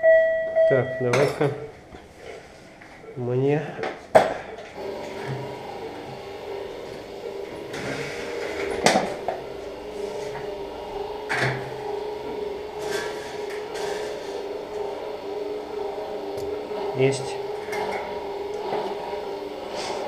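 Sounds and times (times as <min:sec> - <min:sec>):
equipment hum: 0:00.0 - 0:20.0.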